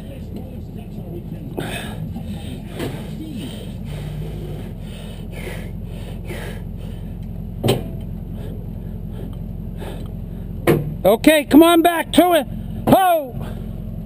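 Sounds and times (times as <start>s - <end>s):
heavy equipment engine running: 0.0s - 14.0s.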